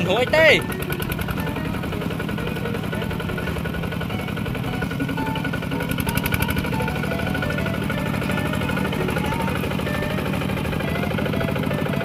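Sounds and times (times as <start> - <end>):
diesel engine pulsing: 0.0 - 12.0.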